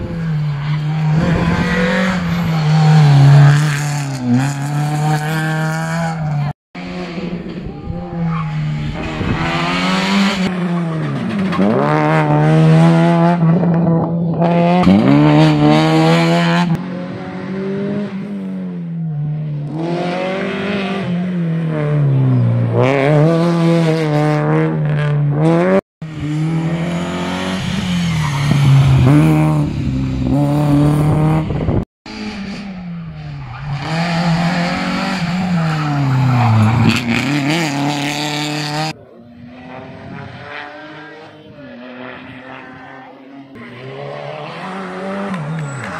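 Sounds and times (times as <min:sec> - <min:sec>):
rally car engines revving: 0:00.0 - 0:45.9.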